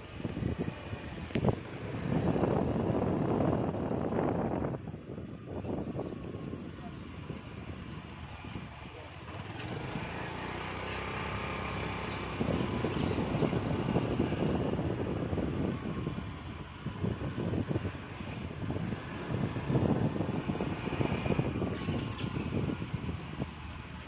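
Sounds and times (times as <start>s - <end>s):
wind rumble on microphone: 0.0s - 8.9s, 11.2s - 24.0s
road vehicle running: 0.0s - 24.0s.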